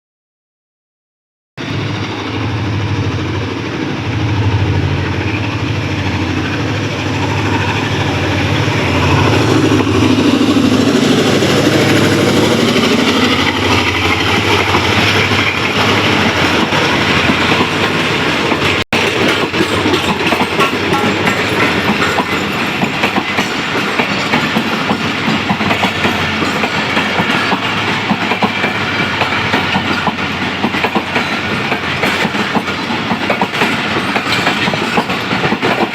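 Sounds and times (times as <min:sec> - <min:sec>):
diesel locomotive engine hum: 0:01.6 - 0:35.9
train wheels clickety-clack: 0:05.0 - 0:35.9.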